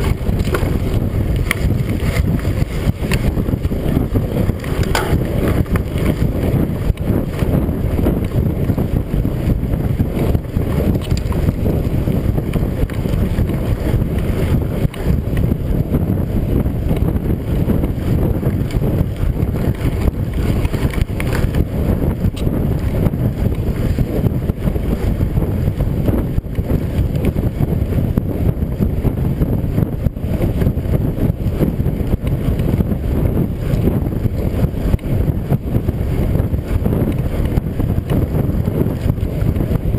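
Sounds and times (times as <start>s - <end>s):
bike rattles and knocks: 0.0s - 39.9s
bike tyres rolling on gravel: 0.0s - 39.9s
wind buffeting microphone: 0.0s - 39.9s.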